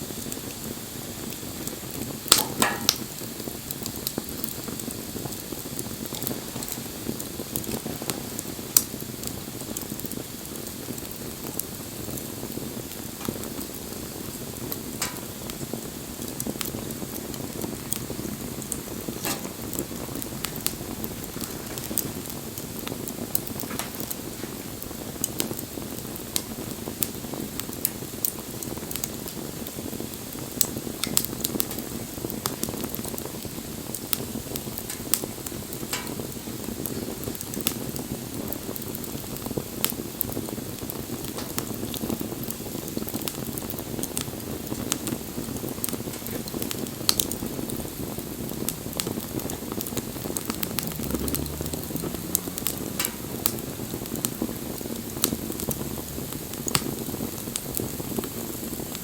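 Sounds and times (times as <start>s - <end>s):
bonfire flame rushing: 0.0s - 59.0s
fire crackling and popping: 0.0s - 59.0s.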